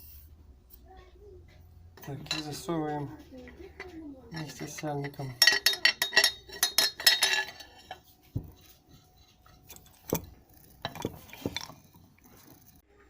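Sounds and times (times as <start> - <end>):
metal clinking and knocking: 2.0 - 12.8.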